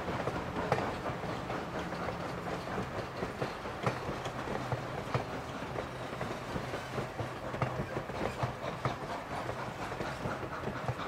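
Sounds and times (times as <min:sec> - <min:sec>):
train wheels rumbling on rails: 0:00.0 - 0:11.0
light clicks of wheels: 0:00.1 - 0:11.0.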